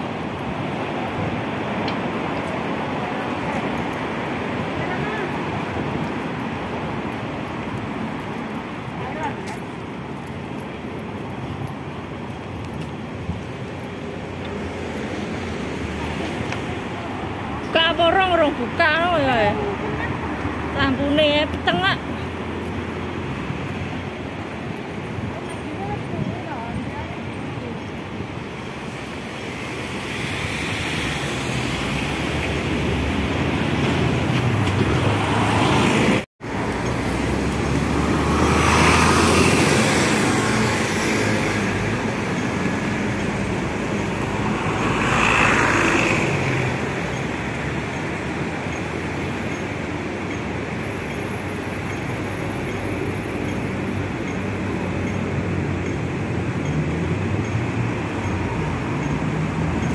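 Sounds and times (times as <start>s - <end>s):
road noise: 0.0s - 59.9s
vehicles passing: 0.0s - 59.9s.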